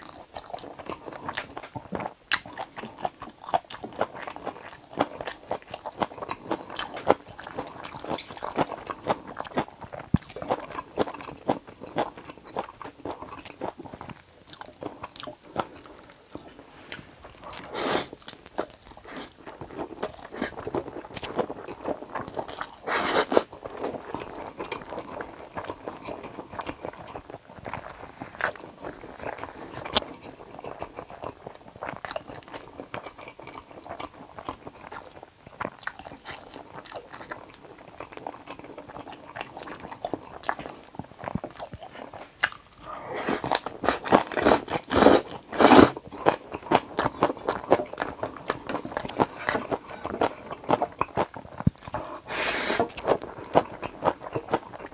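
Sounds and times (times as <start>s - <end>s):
chewing and mouth sounds: 0.0s - 54.9s.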